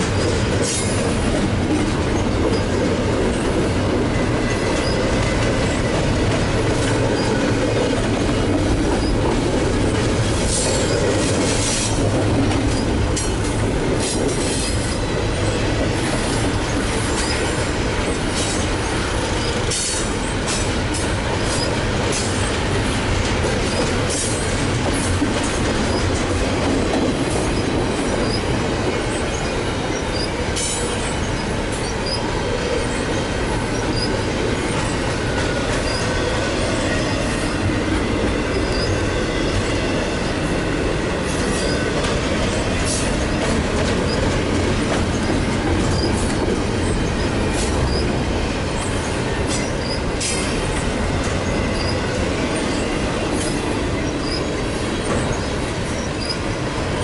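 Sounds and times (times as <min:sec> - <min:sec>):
freight cars clanking and rattling: 0:00.0 - 0:57.0
train wheels rumbling on rails: 0:00.0 - 0:57.0.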